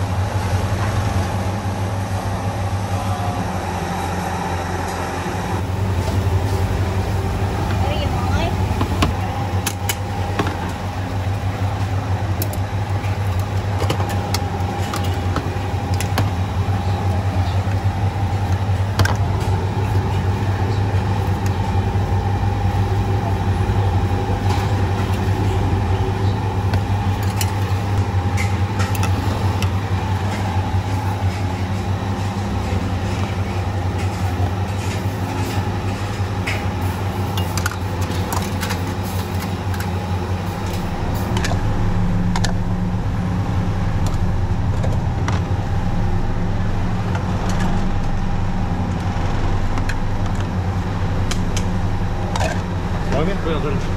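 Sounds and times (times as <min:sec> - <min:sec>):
low drone: 0:00.0 - 0:53.9.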